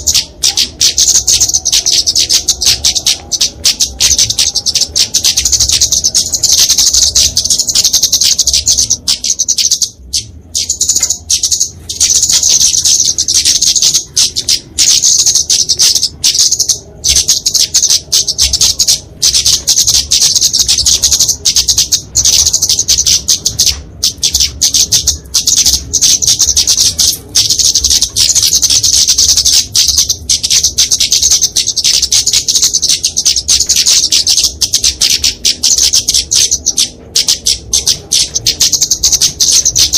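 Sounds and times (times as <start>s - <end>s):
birds high-pitched chipping: 0.0s - 39.9s.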